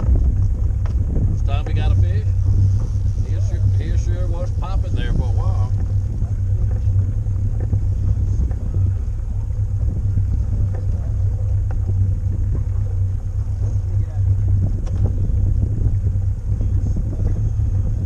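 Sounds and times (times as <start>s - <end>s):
boat motor rumbling: 0.0s - 18.0s
wind on microphone: 0.0s - 18.0s.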